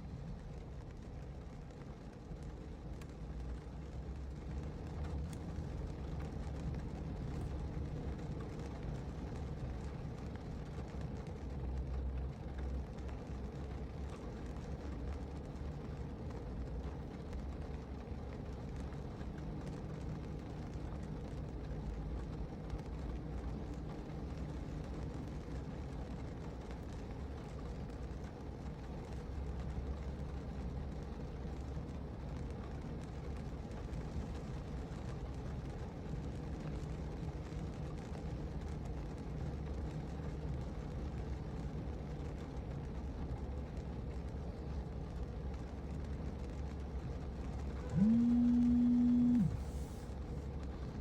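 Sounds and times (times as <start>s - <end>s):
low rumble inside car: 0.0s - 51.0s
rain hissing on car: 0.0s - 51.0s.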